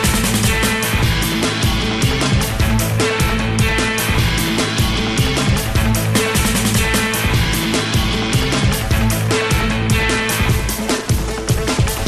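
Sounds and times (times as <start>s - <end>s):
upbeat rock music with guitar: 0.0s - 12.0s.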